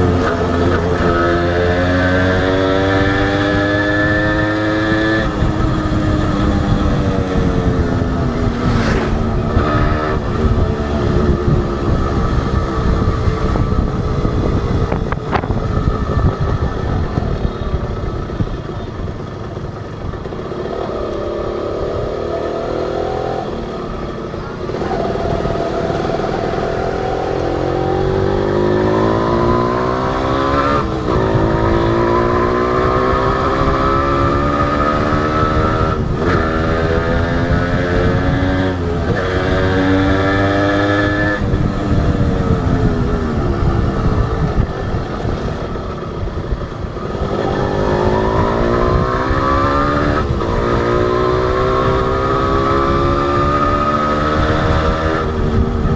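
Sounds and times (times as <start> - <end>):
wind rush: 0.0 - 19.6, 28.0 - 55.9
motorcycle engine accelerating: 0.0 - 55.9.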